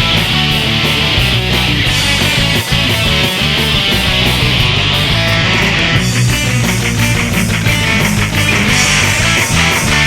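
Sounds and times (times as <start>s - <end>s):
punk rock music: 0.0s - 10.0s.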